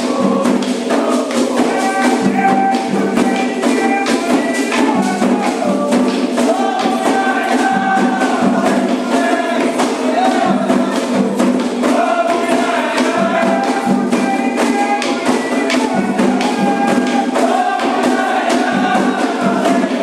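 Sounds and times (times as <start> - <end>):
rapid percussion strikes: 0.0 - 20.0
voices chanting together: 0.0 - 20.0.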